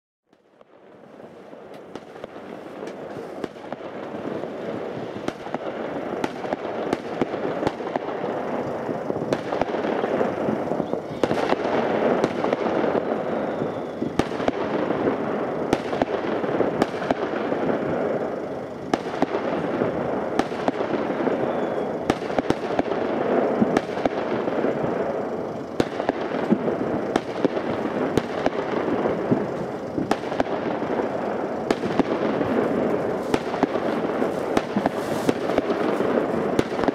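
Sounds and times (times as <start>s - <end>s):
fireworks bangs: 0.3s - 36.9s
fireworks crackling: 0.3s - 36.9s.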